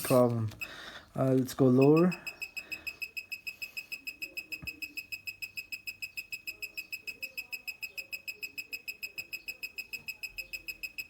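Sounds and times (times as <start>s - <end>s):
tattoo machine chirping pulse: 1.8s - 11.0s.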